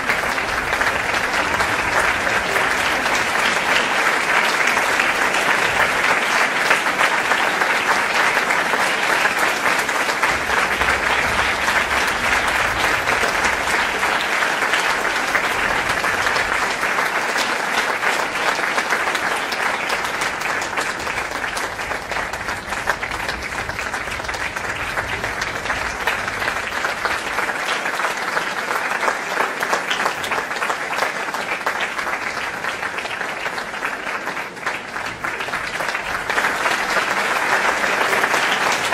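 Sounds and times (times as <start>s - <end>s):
audience applauding: 0.0s - 38.9s.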